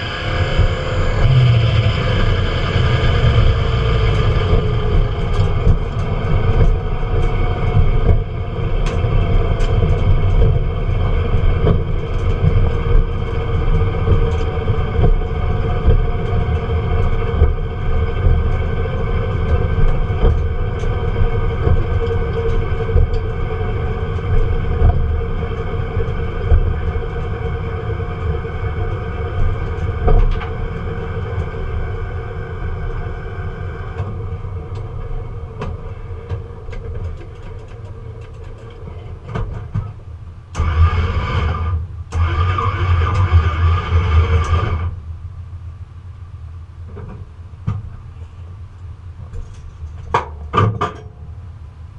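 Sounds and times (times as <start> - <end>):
vehicle engine rumbling: 0.0 - 51.9.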